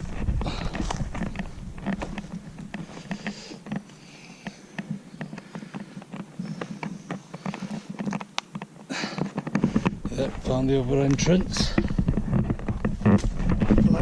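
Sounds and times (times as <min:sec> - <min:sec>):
footsteps on rough ground: 0:00.0 - 0:14.0.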